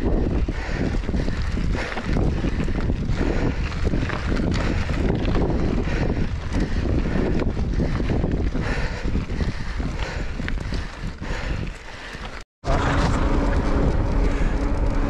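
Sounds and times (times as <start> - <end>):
bike rattling: 0.0 - 15.0
wind buffeting microphone: 0.0 - 15.0.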